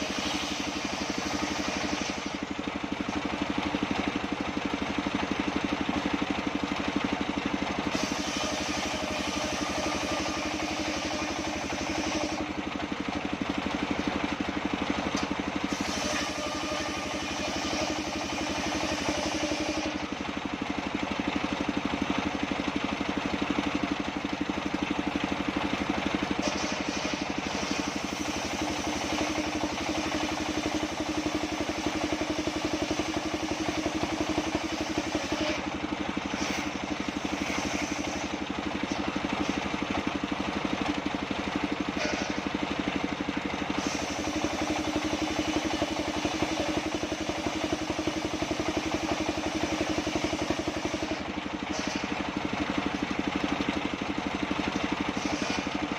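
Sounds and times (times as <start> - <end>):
band sawmill drone: 0.0 - 55.9.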